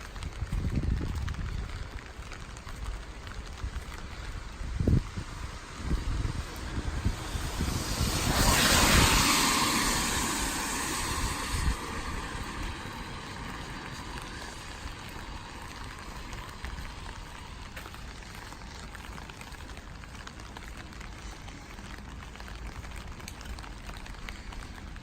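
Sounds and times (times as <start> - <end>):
raindrop ticks: 0.0 - 25.0
steady rain falling: 0.0 - 25.0
vehicle passing: 3.8 - 25.0.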